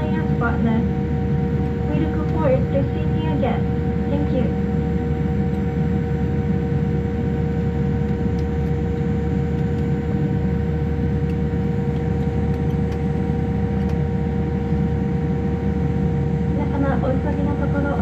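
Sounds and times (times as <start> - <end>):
aircraft cabin low rumble: 0.0 - 18.0
steady two-note hum: 0.0 - 18.0.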